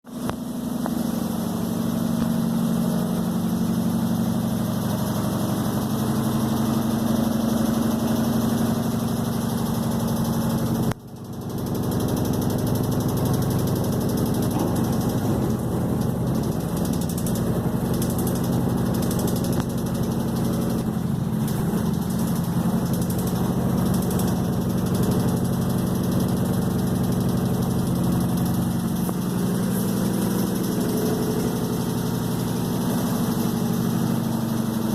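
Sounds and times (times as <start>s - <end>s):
washing machine motor hum: 0.1s - 34.9s.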